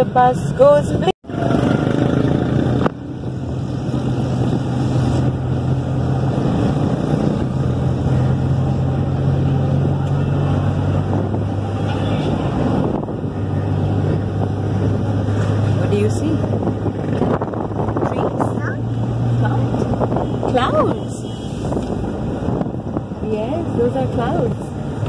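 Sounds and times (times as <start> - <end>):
road noise: 0.0 - 25.0
vehicle engine hum: 0.0 - 25.0.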